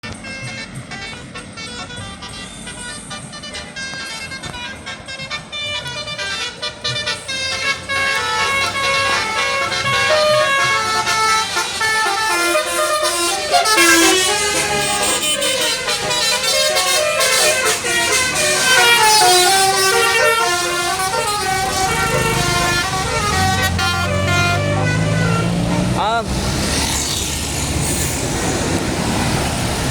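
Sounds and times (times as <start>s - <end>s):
multi-note vehicle horn tunes: 0.0s - 26.4s.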